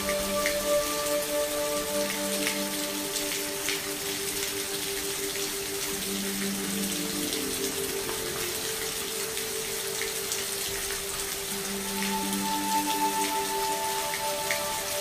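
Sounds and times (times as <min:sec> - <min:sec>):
individual raindrops: 0:00.0 - 0:15.0
soft background music: 0:00.0 - 0:15.0
steady rain: 0:00.0 - 0:15.0.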